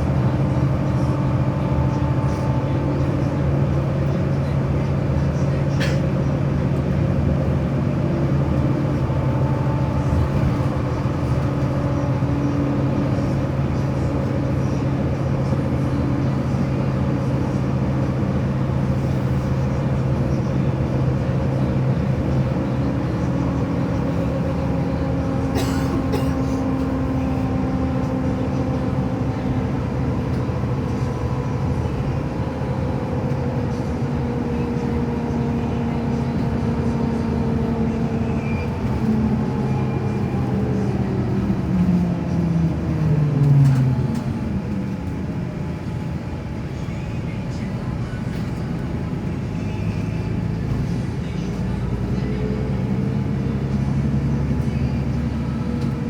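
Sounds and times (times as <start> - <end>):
moving vehicle drone: 0.0 - 56.0.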